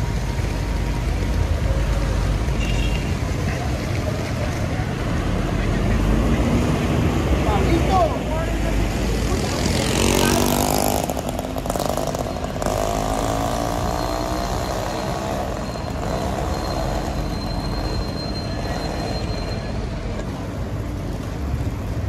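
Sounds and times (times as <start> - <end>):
street noise: 0.0 - 22.0
passing vehicle engine hum: 3.9 - 22.0.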